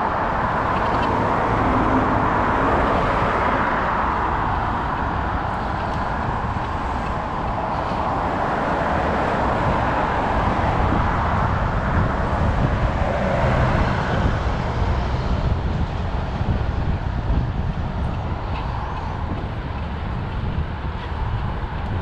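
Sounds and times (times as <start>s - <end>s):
bus passing close: 0.0s - 22.0s
road traffic passing: 0.0s - 22.0s
wind rumbling on microphone: 0.0s - 22.0s.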